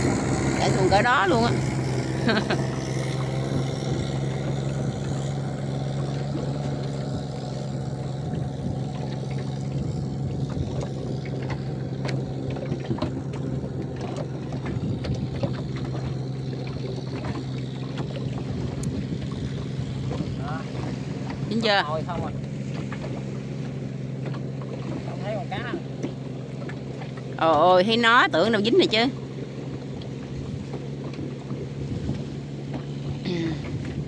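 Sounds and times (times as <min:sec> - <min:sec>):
boat engine droning: 0:00.0 - 0:34.0
water washing along hull: 0:00.0 - 0:34.0.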